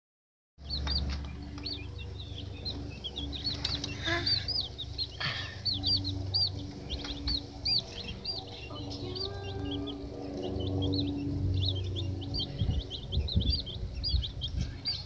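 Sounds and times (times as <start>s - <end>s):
chicks peeping: 0.6s - 15.0s.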